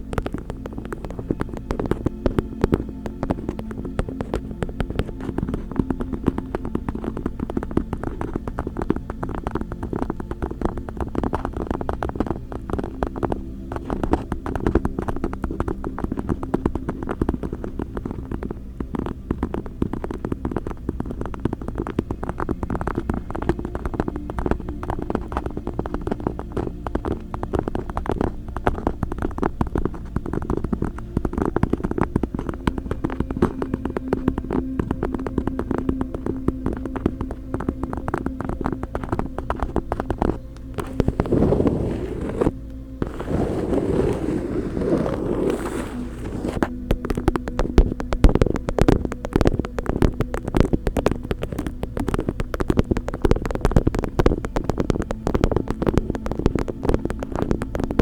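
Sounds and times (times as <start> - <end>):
cat purring: 0.0 - 57.4.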